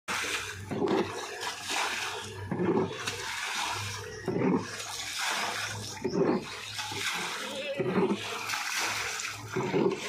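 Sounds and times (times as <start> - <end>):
water splashing against pipe: 0.1 - 10.0.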